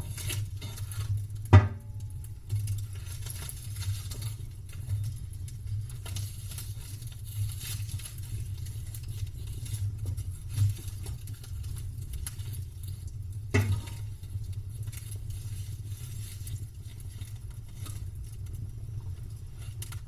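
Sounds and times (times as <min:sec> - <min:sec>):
campfire crackling and popping: 0:00.0 - 0:20.0
low steady rumble: 0:00.0 - 0:20.0.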